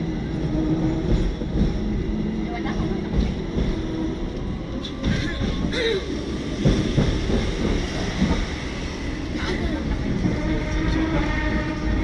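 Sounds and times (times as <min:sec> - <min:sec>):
electric tram rumbling on rails: 0:00.0 - 0:12.0.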